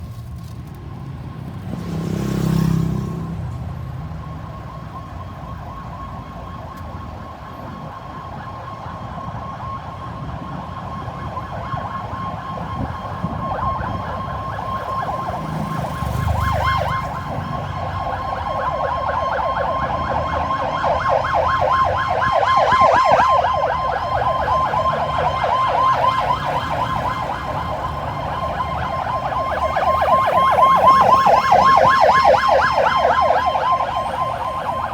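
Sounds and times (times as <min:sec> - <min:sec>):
ambulance siren warbling: 0:01.3 - 0:34.9.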